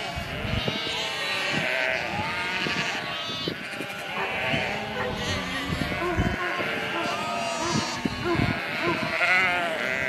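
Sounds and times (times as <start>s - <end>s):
sheep bleating: 0.0s - 10.0s.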